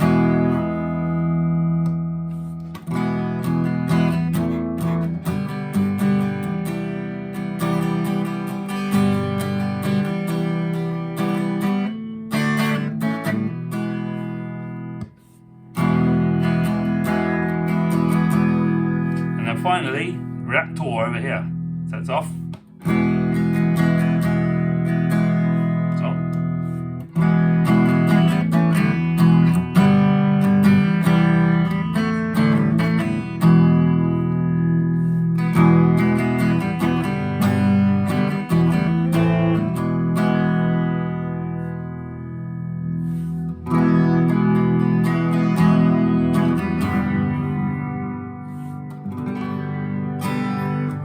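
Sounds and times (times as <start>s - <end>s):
clean electric guitar chords: 0.0s - 51.0s.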